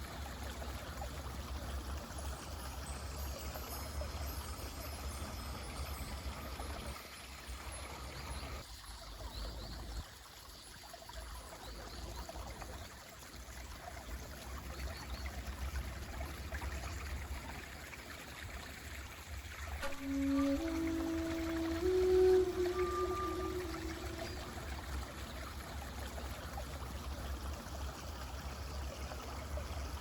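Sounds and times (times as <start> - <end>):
stream flowing: 0.0 - 30.0.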